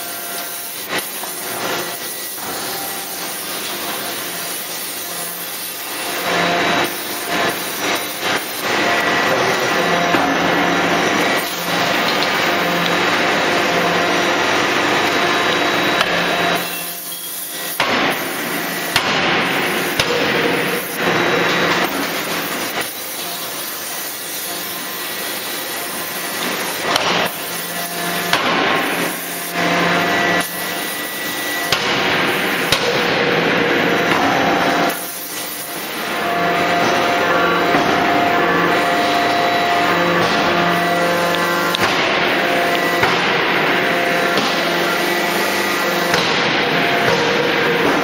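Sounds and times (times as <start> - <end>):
continuous machine noise: 0.0 - 48.0.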